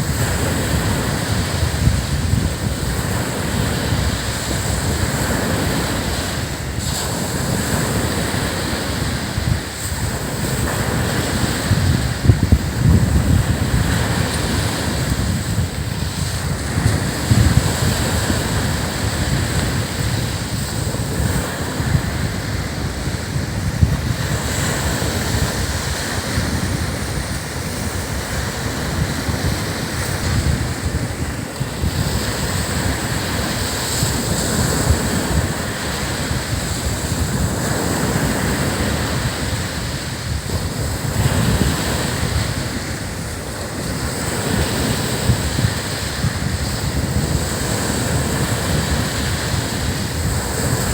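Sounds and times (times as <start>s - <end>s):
ocean surf breaking on beach: 0.0s - 50.9s
wind gusting on microphone: 0.0s - 50.9s.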